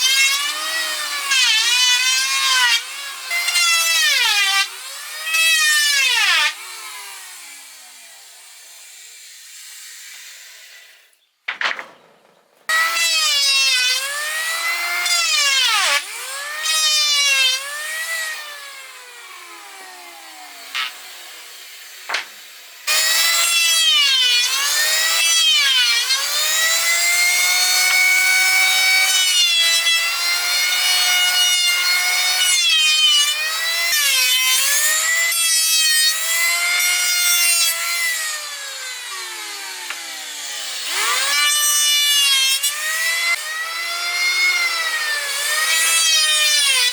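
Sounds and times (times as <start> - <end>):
power saw cutting wood: 0.0 - 46.9.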